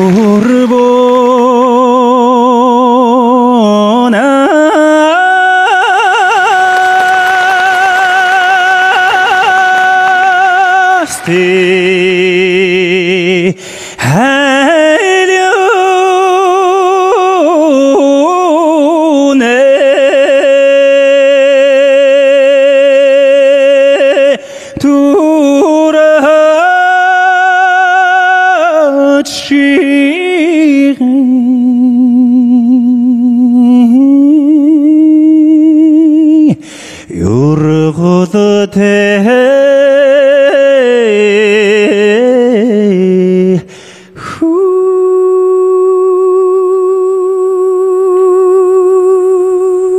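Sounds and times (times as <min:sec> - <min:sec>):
man singing folk song: 0:00.0 - 0:49.9.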